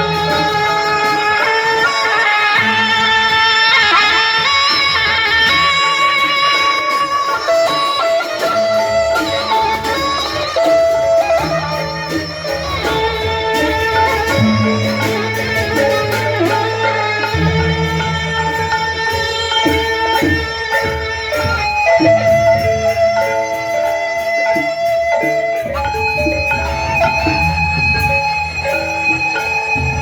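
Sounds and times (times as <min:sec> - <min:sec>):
drum accompaniment: 0:00.0 - 0:30.0
plucked string melody: 0:00.0 - 0:30.0.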